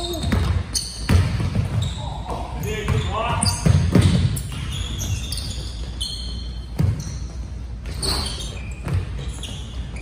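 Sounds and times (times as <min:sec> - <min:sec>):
basketball bouncing on wooden floor: 0:00.0 - 0:10.0
sneakers squeaking: 0:00.0 - 0:10.0.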